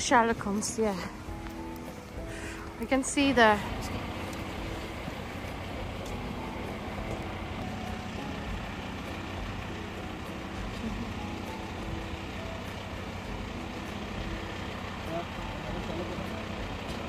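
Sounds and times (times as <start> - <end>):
vehicle engines idling: 0.0 - 17.0.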